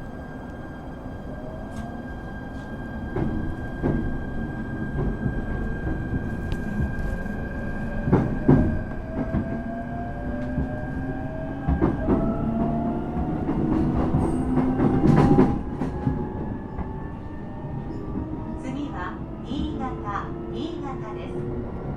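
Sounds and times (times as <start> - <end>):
train rumble: 0.0 - 21.9.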